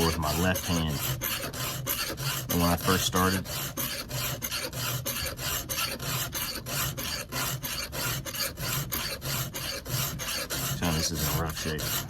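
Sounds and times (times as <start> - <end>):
file rasping on chain teeth: 0.0 - 12.0.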